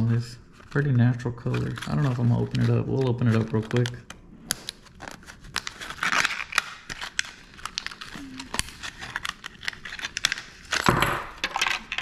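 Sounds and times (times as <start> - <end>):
plastic packaging rustling: 0.5 - 12.0
plastic packaging clicking and crackling: 0.6 - 12.0.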